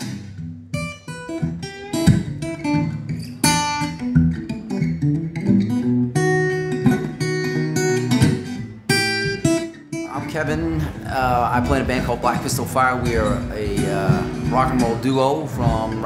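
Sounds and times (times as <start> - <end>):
acoustic guitar picking and strumming: 0.0 - 16.0.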